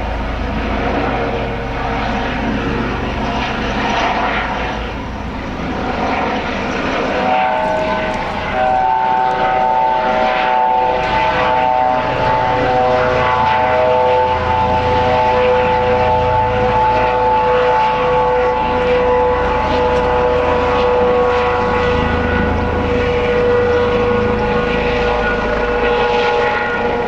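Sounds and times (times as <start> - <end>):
helicopter flying past: 0.0 - 27.0.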